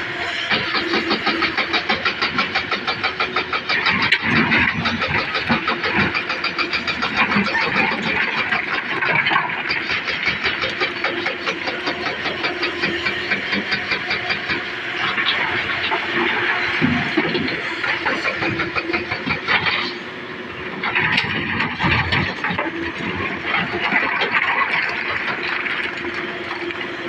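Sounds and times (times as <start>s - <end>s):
excavator diesel engine clattering: 0.0s - 27.0s.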